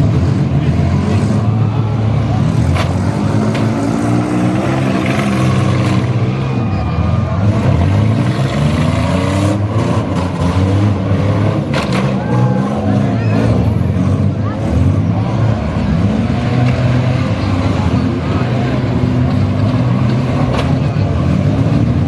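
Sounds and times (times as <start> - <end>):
engines revving: 0.0 - 22.0.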